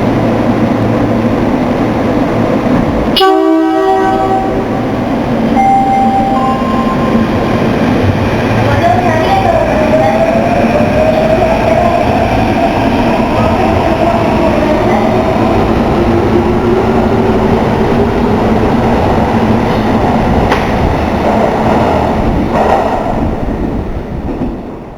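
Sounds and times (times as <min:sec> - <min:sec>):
electric train rumbling: 0:00.0 - 0:24.9.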